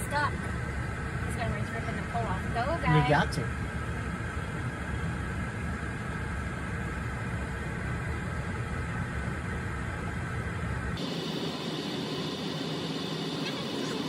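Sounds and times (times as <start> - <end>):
vehicle rumble and road noise: 0.0 - 14.0.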